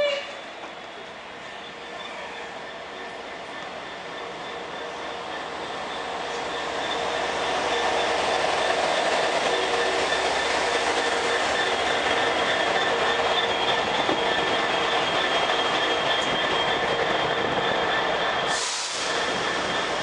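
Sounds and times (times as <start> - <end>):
high wheel squeal: 0.0 - 20.0
train wheel and rail noise: 0.0 - 20.0.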